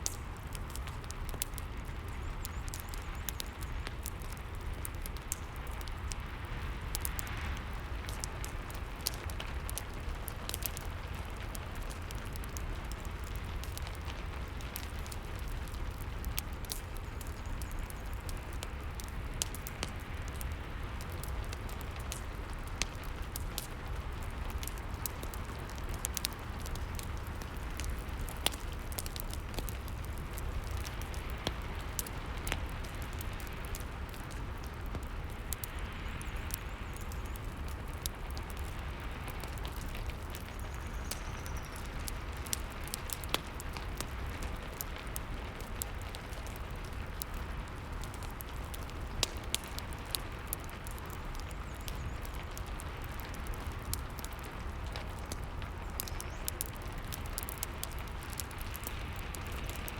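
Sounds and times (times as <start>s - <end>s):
log fire crackling: 0.0s - 59.9s.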